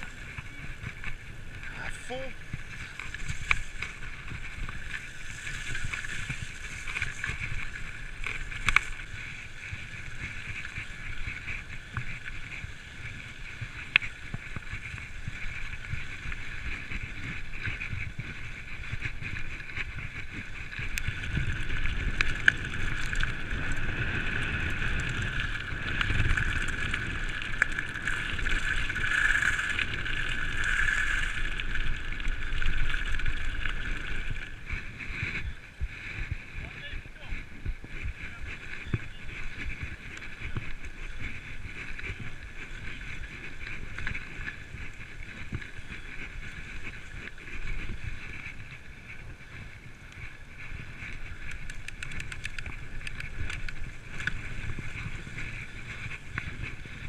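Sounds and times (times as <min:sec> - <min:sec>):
bike tyre rumble on dirt: 0:00.0 - 0:57.0
wind on microphone: 0:00.0 - 0:57.0.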